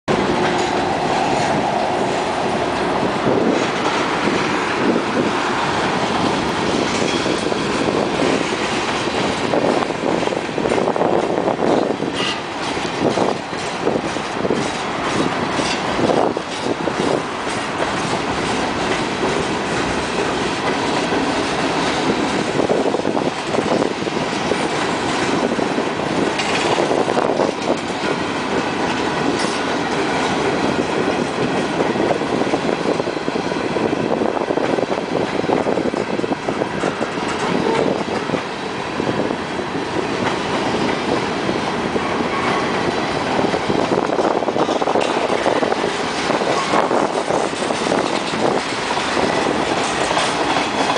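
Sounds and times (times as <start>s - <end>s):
wheels clicking over rail joints: 0.1s - 33.1s, 33.7s - 50.9s
train wheels rumbling on rails: 0.1s - 50.9s.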